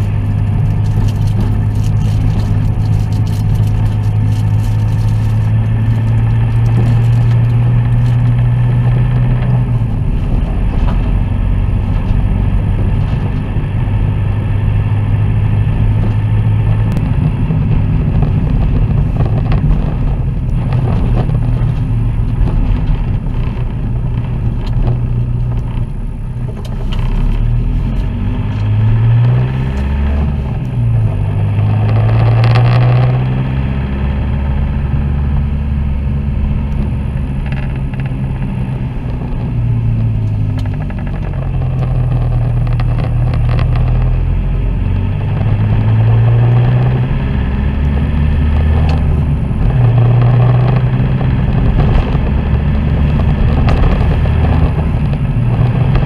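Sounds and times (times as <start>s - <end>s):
tyre and road noise: 0.0s - 56.0s
vehicle engine running: 0.0s - 56.0s.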